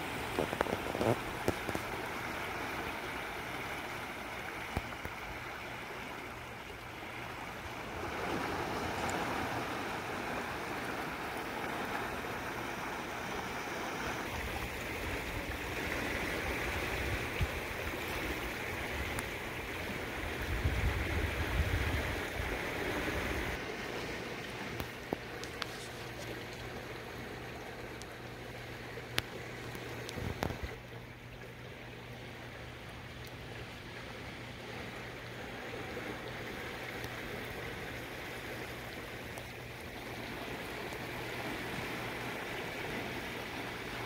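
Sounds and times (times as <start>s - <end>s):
water churning and rushing: 0.0s - 44.0s.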